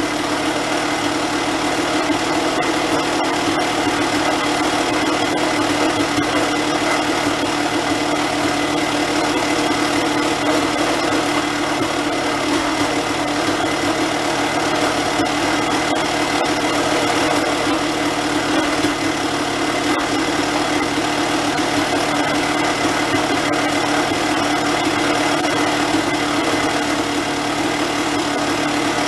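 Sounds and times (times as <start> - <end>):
dirt bike engine idling: 0.0 - 29.0.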